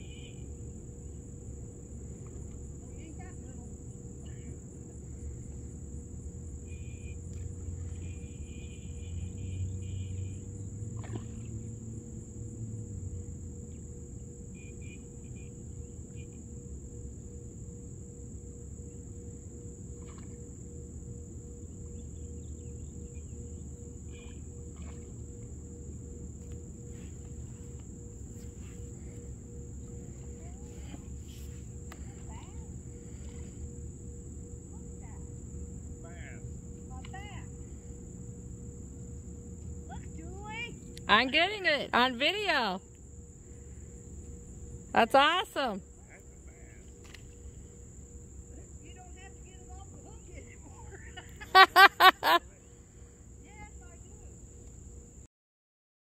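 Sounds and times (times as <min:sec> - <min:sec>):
insect chorus drone: 0:00.0 - 0:55.3.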